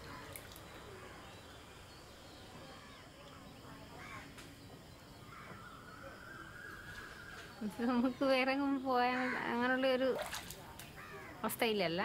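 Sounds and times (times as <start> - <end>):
soft bird calls: 0.0 - 11.6
faint outdoor ambience: 0.0 - 12.0.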